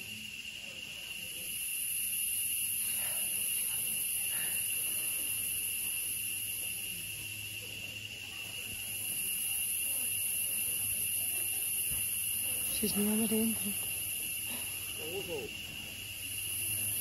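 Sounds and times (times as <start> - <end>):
insects chirping chorus: 0.0 - 17.0.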